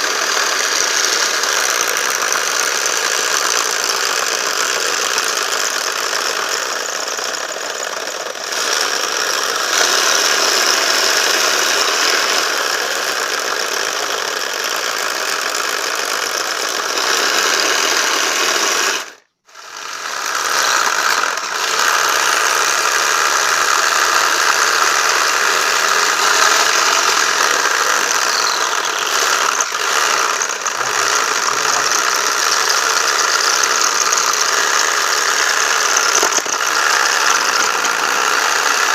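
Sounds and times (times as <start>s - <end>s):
jigsaw running with rattling: 0.0s - 38.9s.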